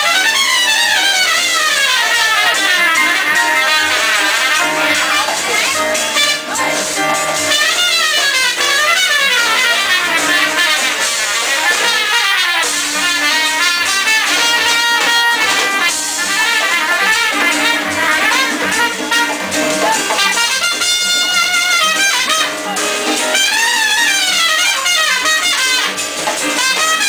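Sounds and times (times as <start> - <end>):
hand percussion: 0.0 - 27.0
piano: 0.0 - 27.0
trumpet: 0.0 - 27.0.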